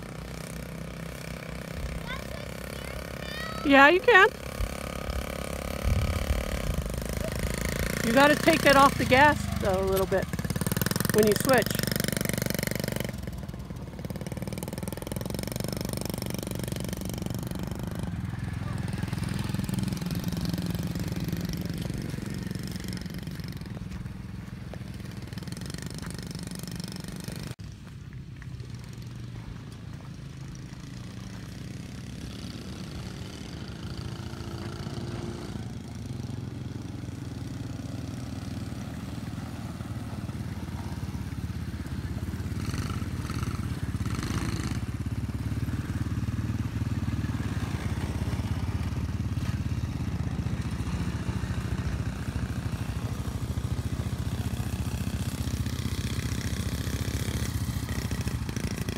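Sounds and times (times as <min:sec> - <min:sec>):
quad engine running: 0:00.0 - 0:58.9
small dirt bike engine running: 0:00.0 - 0:58.9.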